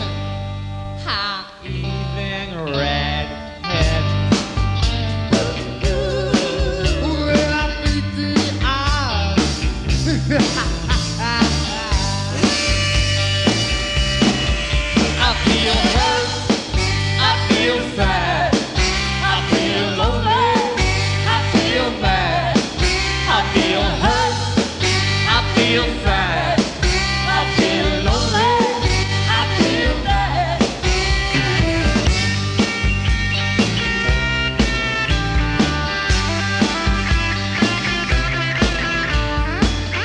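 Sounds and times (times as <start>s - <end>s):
blues-rock band playing: 0.0s - 40.0s.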